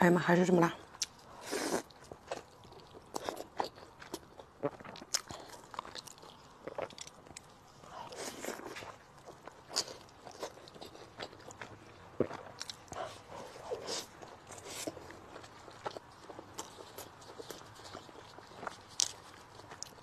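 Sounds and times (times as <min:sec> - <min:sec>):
chewing noodles: 0:00.8 - 0:20.0.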